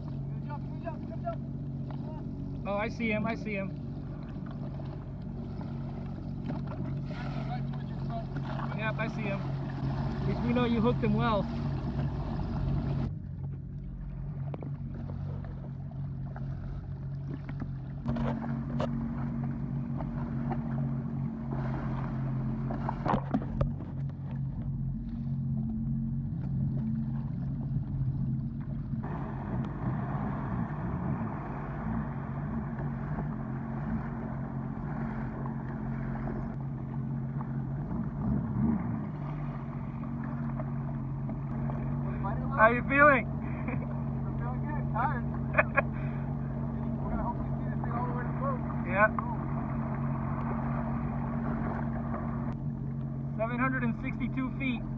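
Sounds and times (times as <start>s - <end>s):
jet ski engine idling: 0.0s - 54.9s.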